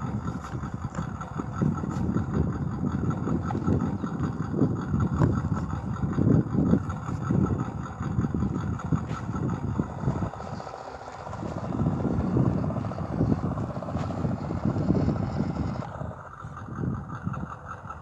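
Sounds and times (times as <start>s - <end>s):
toy truck motor running: 0.0s - 18.0s.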